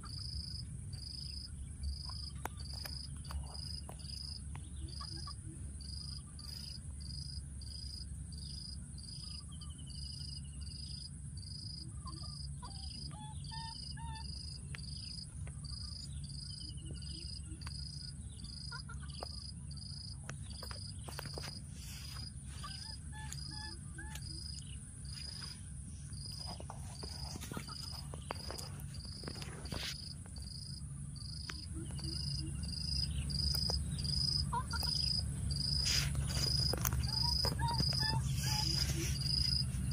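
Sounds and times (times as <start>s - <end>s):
high insect hum: 0.0s - 39.9s
insects chirping: 0.0s - 39.9s.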